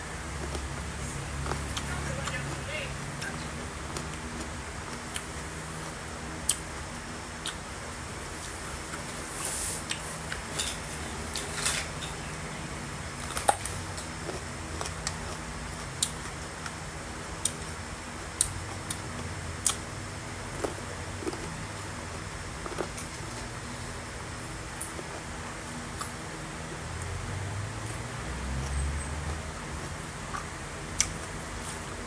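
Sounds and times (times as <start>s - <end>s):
crunching and chewing plums: 0.1s - 2.5s, 3.2s - 27.2s, 27.8s - 32.0s.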